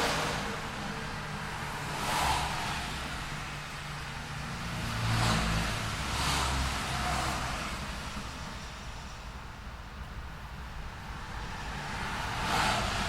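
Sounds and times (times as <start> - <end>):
low rumble of traffic engines: 0.0 - 13.0
vehicles passing close: 0.0 - 13.0.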